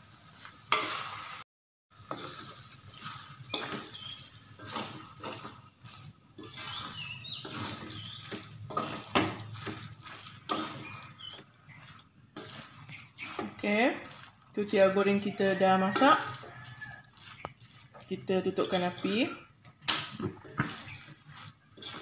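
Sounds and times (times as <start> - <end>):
noodles sizzling: 0.0 - 22.0
wooden spatula scraping a wok: 0.0 - 22.0.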